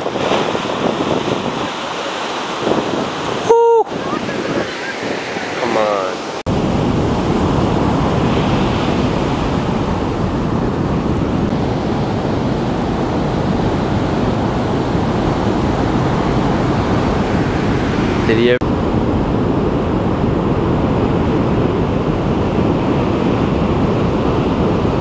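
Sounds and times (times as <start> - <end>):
ocean surf breaking: 0.0 - 25.0
wind noise on microphone: 0.0 - 25.0.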